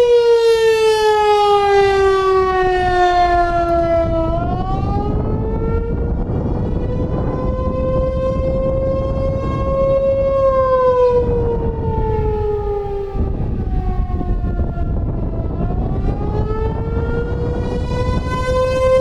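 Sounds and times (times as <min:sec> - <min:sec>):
warning siren wailing: 0:00.0 - 0:19.0.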